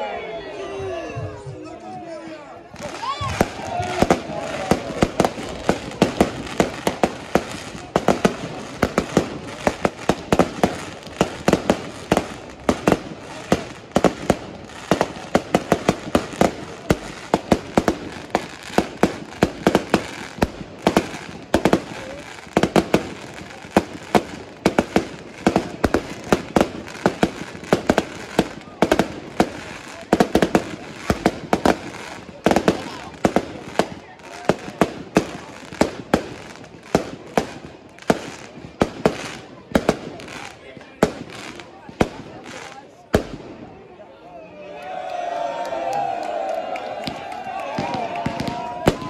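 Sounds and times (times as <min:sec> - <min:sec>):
fireworks bangs and crackles: 0:02.6 - 0:44.0, 0:46.8 - 0:49.0.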